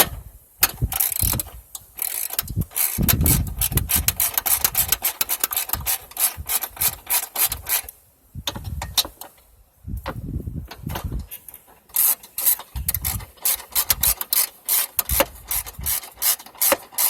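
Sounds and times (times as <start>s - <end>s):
ratchet wrench clicking: 0.0s - 9.3s, 11.2s - 17.0s.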